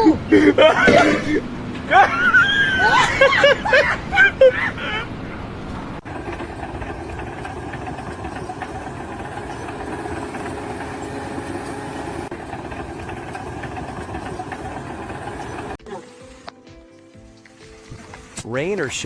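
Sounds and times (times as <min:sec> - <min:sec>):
engine running steadily: 0:00.0 - 0:16.6.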